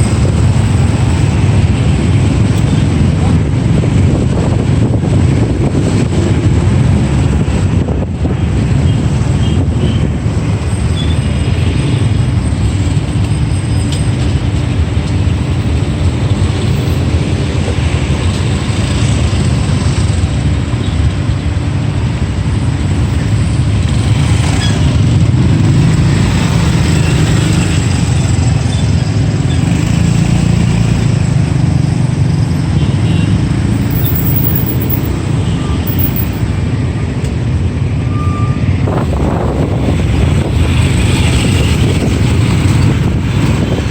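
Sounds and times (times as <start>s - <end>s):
road and wind noise: 0.0s - 43.9s
traffic: 0.0s - 43.9s.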